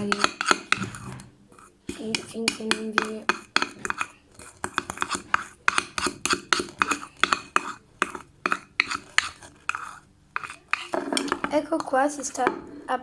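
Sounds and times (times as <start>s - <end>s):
teaspoon scraping a bowl: 0.0s - 13.0s.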